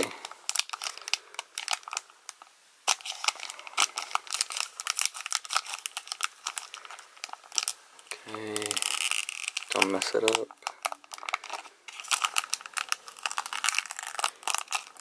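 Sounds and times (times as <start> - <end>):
foil wrapper crinkling: 0.0 - 15.0.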